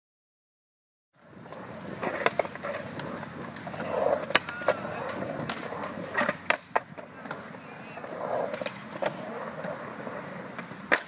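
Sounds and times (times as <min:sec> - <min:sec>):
skateboard wheels rolling on concrete: 0:01.2 - 0:11.0
skateboard clacking on concrete: 0:01.4 - 0:11.0.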